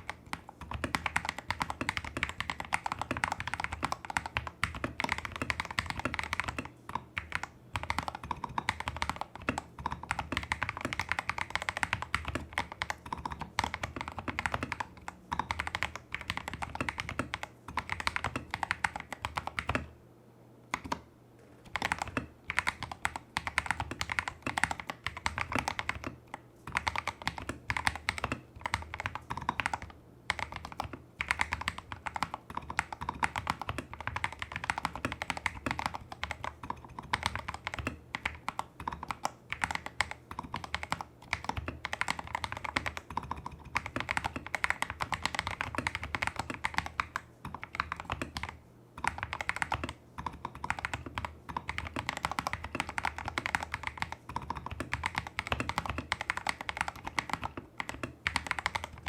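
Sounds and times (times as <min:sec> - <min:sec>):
mechanical keyboard typing: 0:00.0 - 0:19.9, 0:20.7 - 0:59.0.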